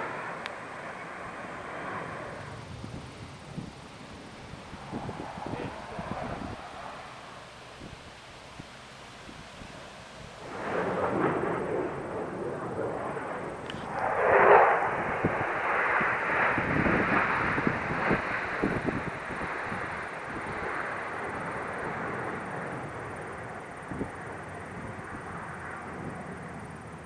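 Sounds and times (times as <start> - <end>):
fighter jets flying past: 0.0 - 27.0.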